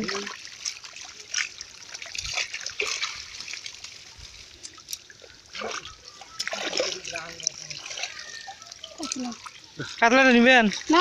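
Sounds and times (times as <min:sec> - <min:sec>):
fish flapping in shallow water: 0:00.0 - 0:09.8.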